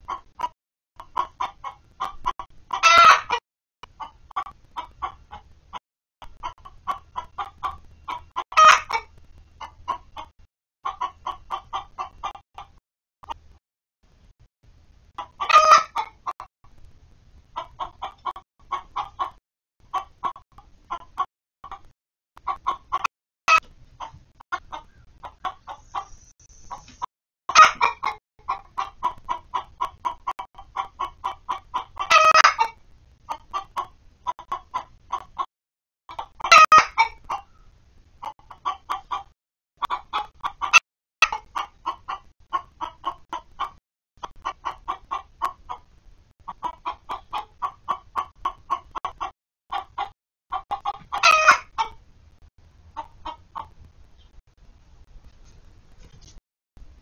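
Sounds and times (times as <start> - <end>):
hens clucking: 0.0 - 13.5, 15.1 - 16.4, 17.5 - 35.5, 36.1 - 37.6, 38.2 - 52.0, 52.9 - 53.9.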